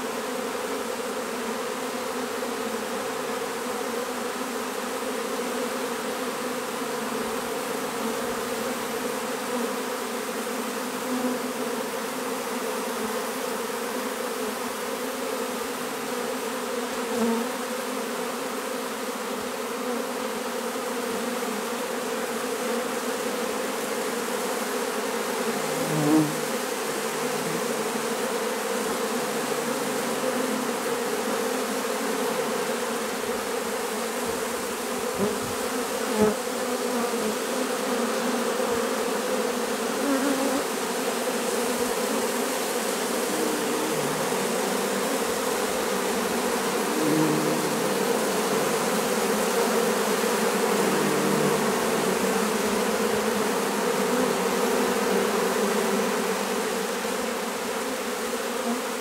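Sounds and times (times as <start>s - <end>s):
bee swarm buzzing: 0.0s - 59.0s.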